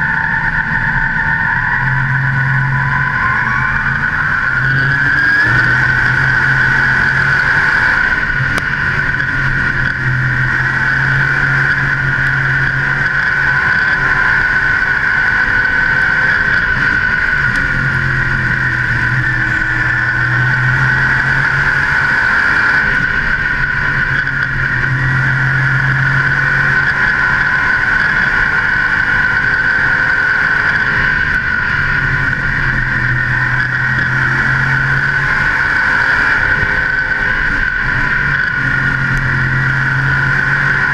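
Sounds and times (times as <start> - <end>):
race car engine running hard: 0.0 - 40.9
steady rushing drone: 0.0 - 40.9.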